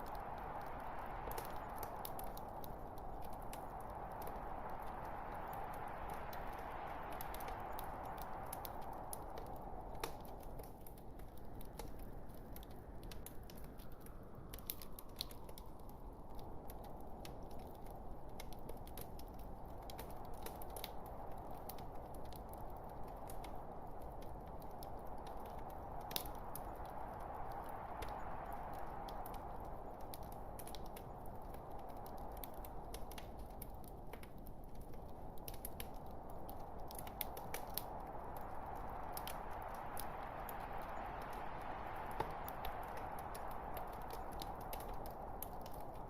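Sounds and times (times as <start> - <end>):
fire crackling and popping: 0.0 - 46.0
wood fire burning: 0.0 - 46.0.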